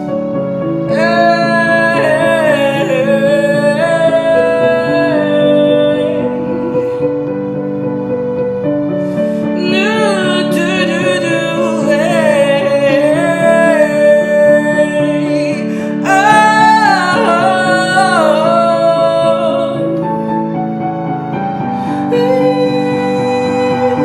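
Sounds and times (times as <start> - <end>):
instrumental accompaniment: 0.0 - 24.0
person singing long wavering notes: 0.7 - 7.7, 9.1 - 20.8, 21.5 - 24.0.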